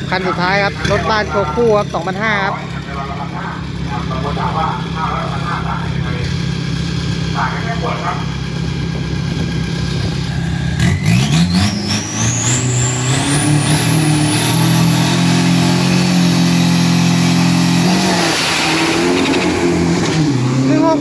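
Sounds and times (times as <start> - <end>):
diesel engine at high revs: 0.0 - 21.0.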